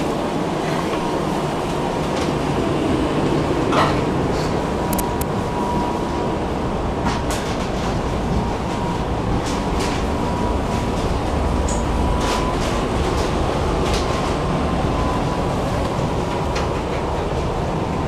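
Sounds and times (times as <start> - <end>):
thin steady whine: 0.0 - 18.0
tram wheels and motors rumbling: 0.0 - 18.0.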